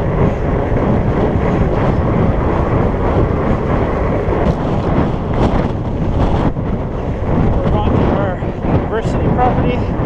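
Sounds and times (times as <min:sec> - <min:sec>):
tyres rolling on pavement: 0:00.0 - 0:09.6
wind buffeting microphone: 0:00.0 - 0:10.0.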